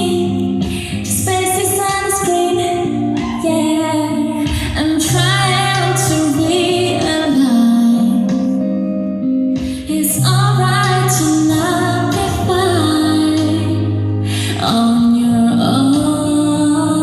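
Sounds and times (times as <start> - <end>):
backing track: 0.0 - 17.0
woman singing a pop song: 0.0 - 17.0.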